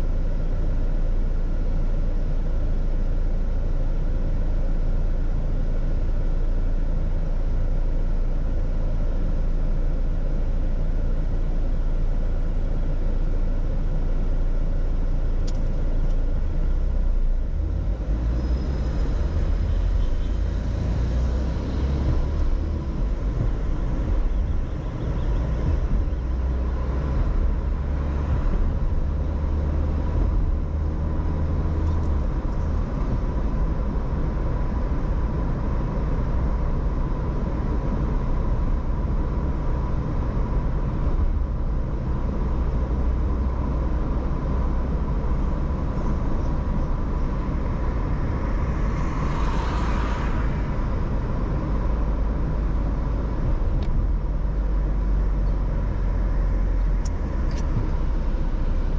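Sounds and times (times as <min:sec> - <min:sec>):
car engine and road noise: 0:00.0 - 0:58.9.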